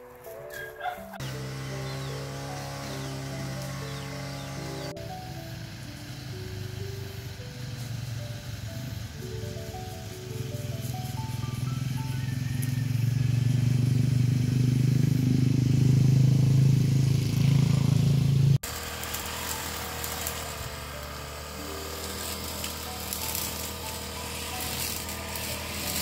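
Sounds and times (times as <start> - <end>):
brush cutter engine running: 0.2 - 26.0.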